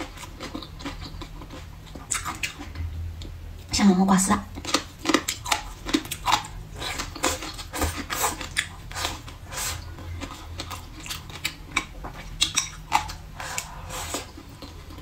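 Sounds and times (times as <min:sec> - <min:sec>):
crunchy chewing: 0:00.0 - 0:03.3, 0:04.5 - 0:15.0.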